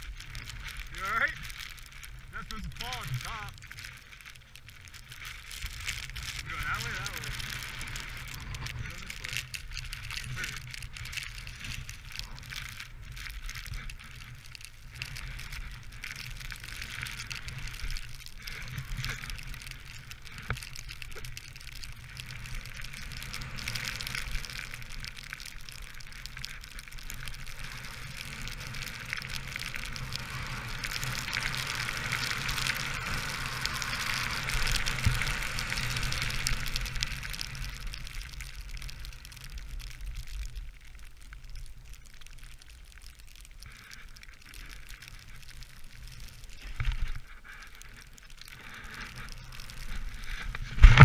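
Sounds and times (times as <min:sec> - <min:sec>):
wind rumbling on microphone: 0:00.0 - 0:51.0.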